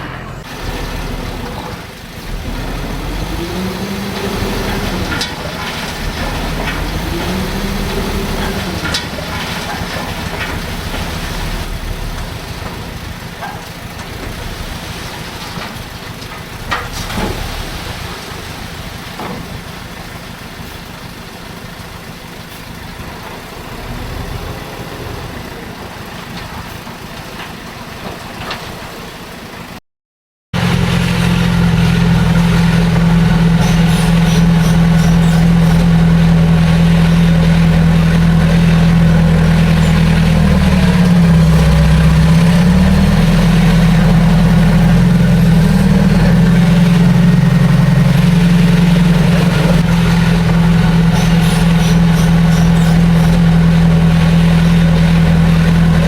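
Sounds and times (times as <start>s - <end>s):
heavy diesel engine running: 0.0s - 29.8s, 30.6s - 56.0s.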